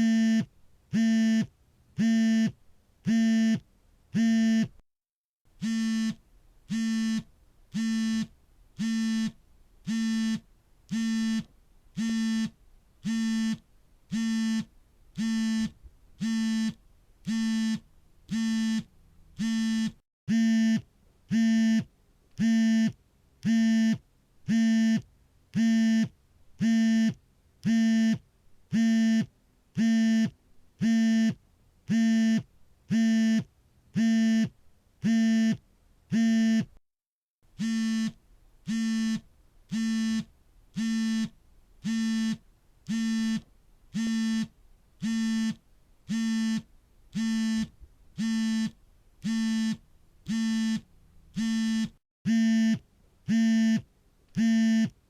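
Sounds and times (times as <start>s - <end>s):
smartphone vibrating buzz: 0.0s - 3.6s, 4.2s - 4.7s, 5.6s - 25.0s, 25.6s - 36.8s, 37.6s - 55.0s.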